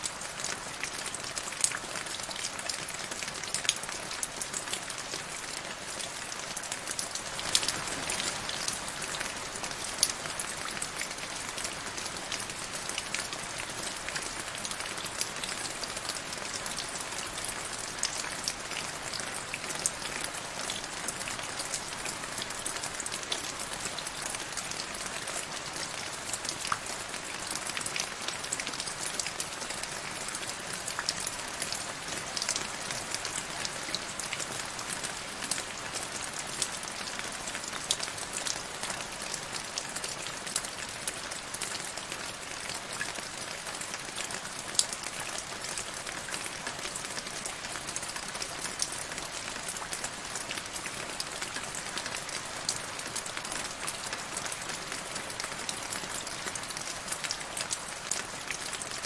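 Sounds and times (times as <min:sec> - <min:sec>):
rain falling into a puddle: 0:00.0 - 0:59.0.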